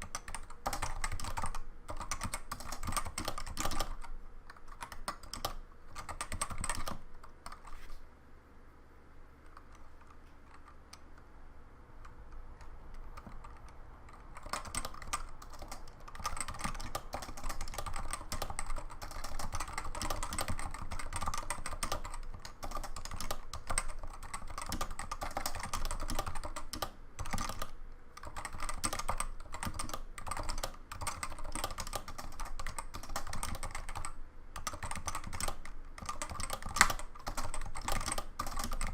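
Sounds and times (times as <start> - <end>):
keyboard typing: 0.0 - 7.8, 9.4 - 11.3, 12.0 - 38.9.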